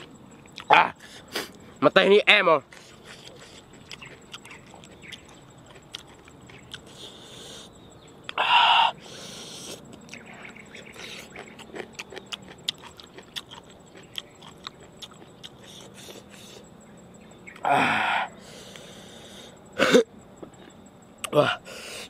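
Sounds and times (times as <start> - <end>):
chewing and lip-smacking: 0.0 - 1.8, 2.6 - 17.7, 18.5 - 19.7.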